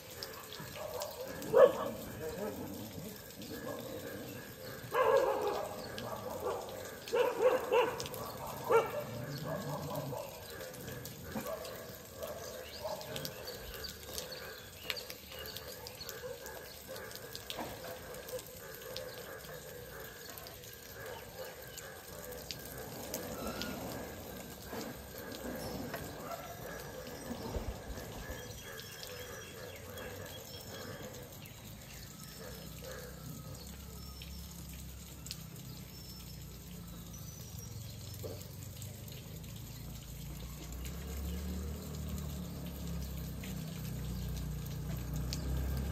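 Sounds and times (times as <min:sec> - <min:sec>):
dogs barking: 0:00.0 - 0:45.9.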